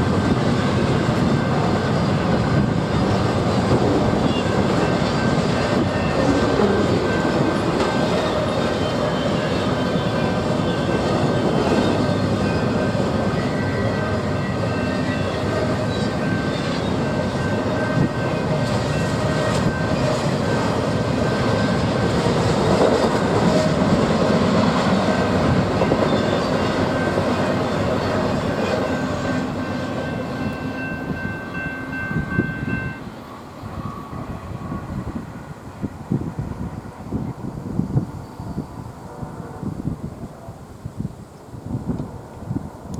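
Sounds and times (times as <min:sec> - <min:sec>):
train wheels on rails: 0:00.0 - 0:40.2.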